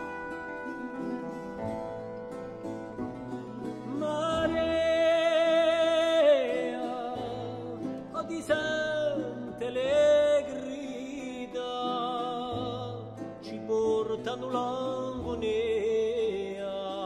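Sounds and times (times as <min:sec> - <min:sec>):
instrumental accompaniment: 0:00.0 - 0:17.0
person singing with vibrato: 0:00.0 - 0:17.0.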